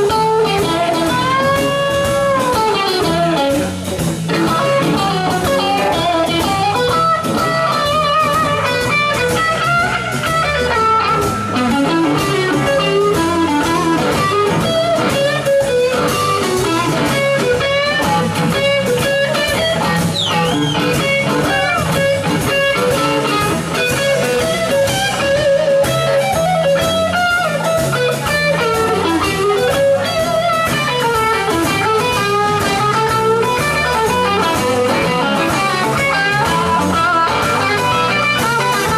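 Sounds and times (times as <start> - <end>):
drum kit: 0.0 - 38.9
electric bass: 0.0 - 38.9
electric guitar lead lines: 0.0 - 38.9.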